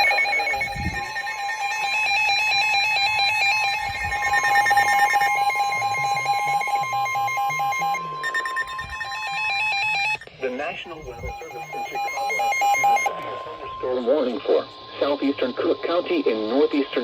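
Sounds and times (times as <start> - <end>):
rapid pulsing alarm beeps: 0.0 - 17.0
steady warning alert tone: 0.0 - 17.0.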